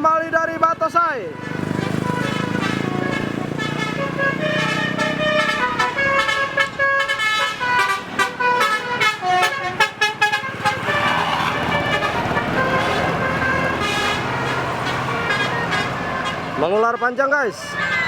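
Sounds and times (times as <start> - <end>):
steady vehicle noise: 0.0 - 18.0
musical air horn playing a tune: 1.3 - 16.6.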